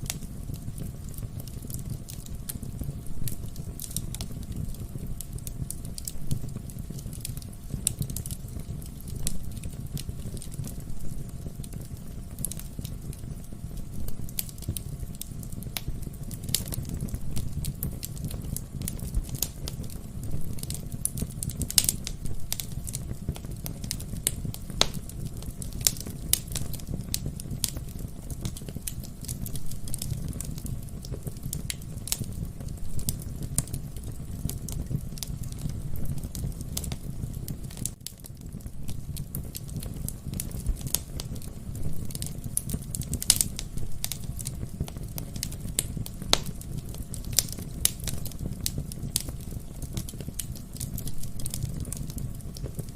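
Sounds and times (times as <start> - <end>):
burning logs crackling and popping: 0.0 - 52.9
low rumble of flames: 0.0 - 52.9.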